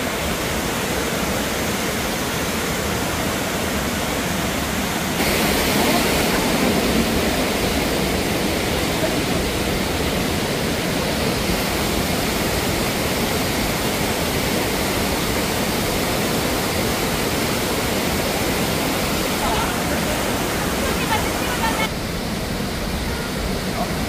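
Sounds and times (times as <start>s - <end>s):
waterfall and river rushing: 0.0s - 24.0s.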